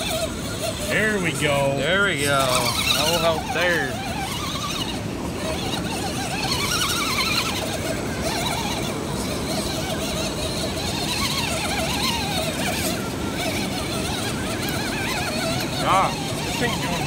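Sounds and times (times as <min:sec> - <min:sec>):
water rushing over weir: 0:00.0 - 0:17.0
whining electric motor: 0:00.0 - 0:17.0.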